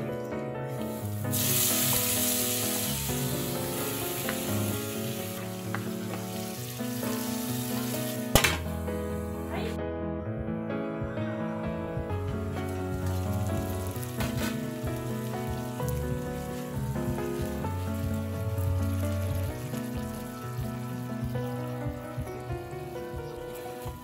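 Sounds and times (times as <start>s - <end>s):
background music: 0.0s - 24.0s
vegetables sizzling in hot oil: 0.7s - 9.5s, 12.4s - 24.0s.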